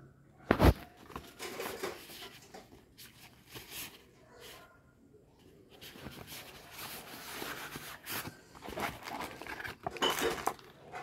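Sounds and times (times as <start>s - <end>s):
plastic packaging rustling: 0.5s - 4.6s, 5.7s - 11.0s.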